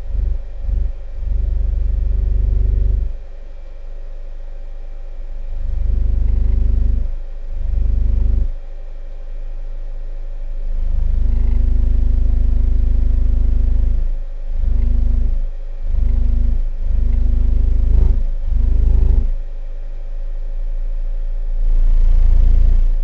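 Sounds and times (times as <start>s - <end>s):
subwoofer playing deep bass: 0.0s - 23.0s.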